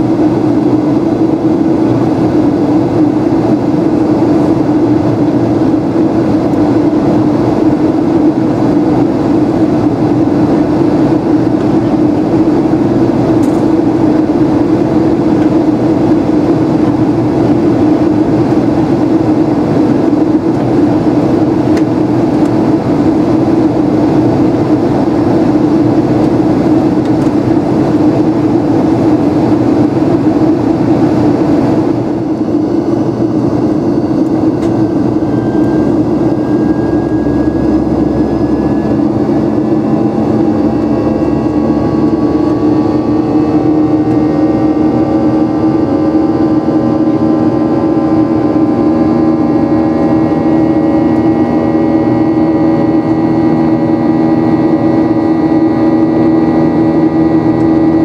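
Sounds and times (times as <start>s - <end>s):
airflow: 0.0s - 58.0s
jet engines rumbling: 0.0s - 58.0s
low hum: 0.0s - 58.0s.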